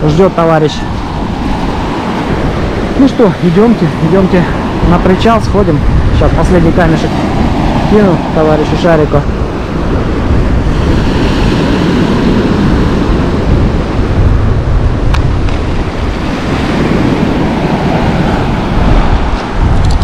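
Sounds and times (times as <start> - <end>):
sea surf washing on shore: 0.0 - 20.0
wind buffeting microphone: 0.0 - 20.0.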